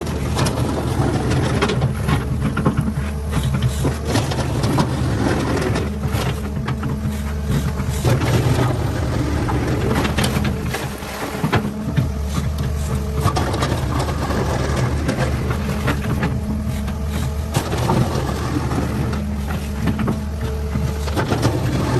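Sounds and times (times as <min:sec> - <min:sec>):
excavator diesel engine: 0:00.0 - 0:21.9
knocks and clatter: 0:00.0 - 0:21.9.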